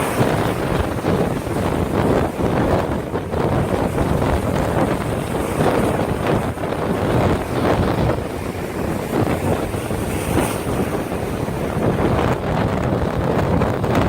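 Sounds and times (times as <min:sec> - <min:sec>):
storm wind on microphone: 0:00.0 - 0:14.0
surf breaking: 0:00.0 - 0:14.0.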